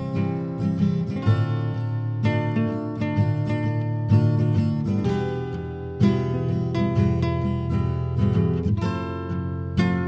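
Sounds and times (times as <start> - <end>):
guitar chords ringing: 0.0 - 10.0.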